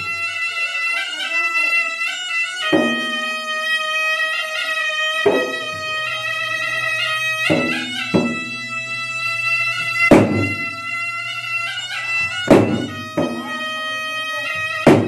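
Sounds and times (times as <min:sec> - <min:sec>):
hand-beaten drums: 0:00.0 - 0:15.0
wind pipe holding a melody: 0:00.0 - 0:15.0.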